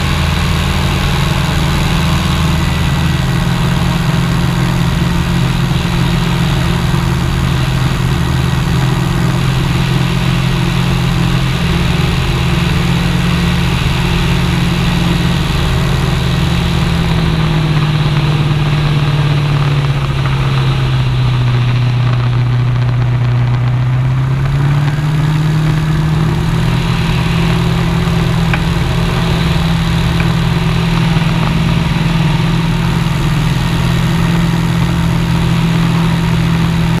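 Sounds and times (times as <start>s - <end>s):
propeller aircraft engine droning: 0.0s - 37.0s
rushing airflow noise: 0.0s - 37.0s.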